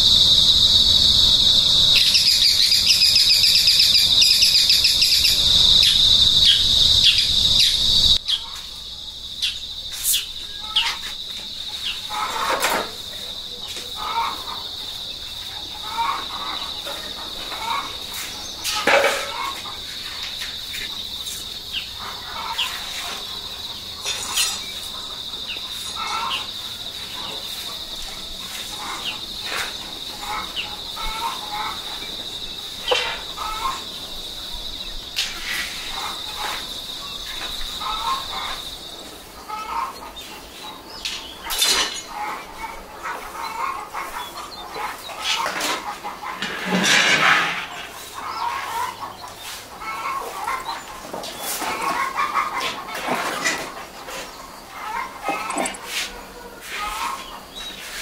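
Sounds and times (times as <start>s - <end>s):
high insect drone: 0.0s - 52.5s, 54.3s - 58.0s
chickens clucking: 10.6s - 58.0s.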